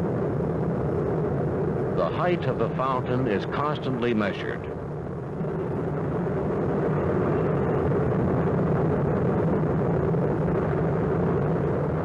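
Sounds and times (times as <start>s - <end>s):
lava fountain roaring: 0.0s - 12.0s.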